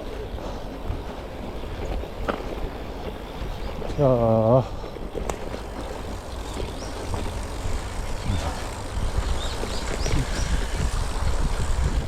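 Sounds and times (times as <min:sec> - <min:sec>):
tyres rolling over dirt: 0:00.0 - 0:12.0
wind buffeting microphone: 0:00.0 - 0:12.0.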